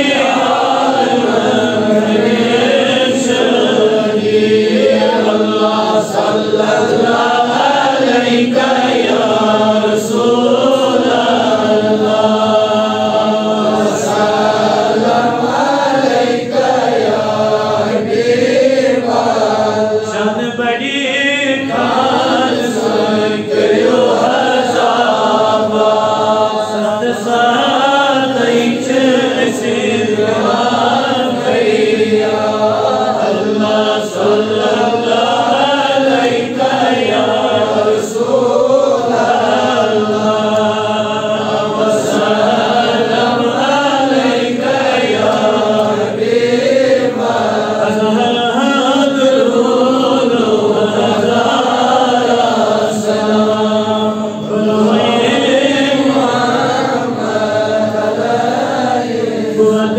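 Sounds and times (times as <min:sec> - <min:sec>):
men chanting devotional recitation: 0:00.0 - 0:59.9.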